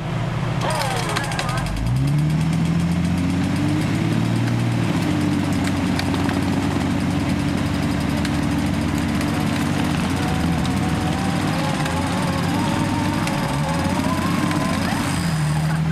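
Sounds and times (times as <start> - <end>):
engine running at raised revs: 0.0 - 15.9.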